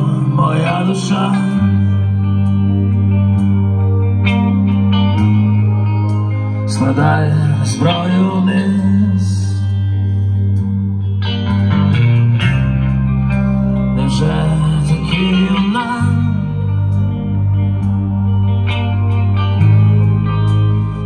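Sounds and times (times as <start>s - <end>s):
bass notes: 0.0s - 21.0s
electric guitar: 0.0s - 21.0s.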